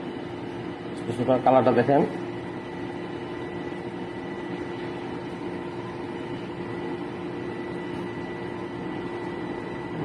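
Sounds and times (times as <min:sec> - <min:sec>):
espresso machine pump humming: 0:00.0 - 0:10.0.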